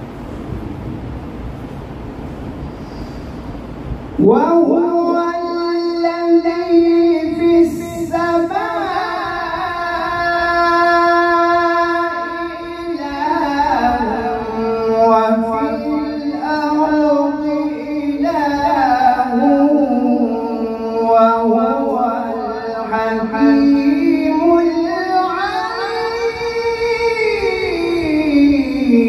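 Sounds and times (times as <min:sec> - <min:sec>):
man chanting through a microphone: 0:04.2 - 0:29.0.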